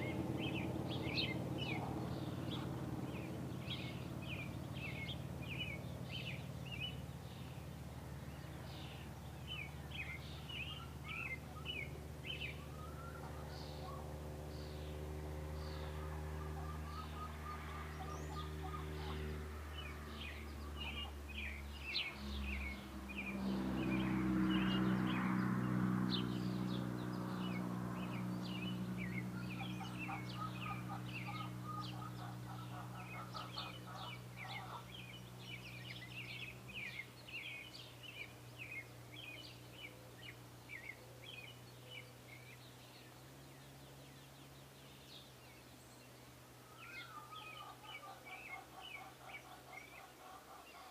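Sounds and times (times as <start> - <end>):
low engine hum: 0.0 - 50.9
small birds chirping: 0.0 - 50.9.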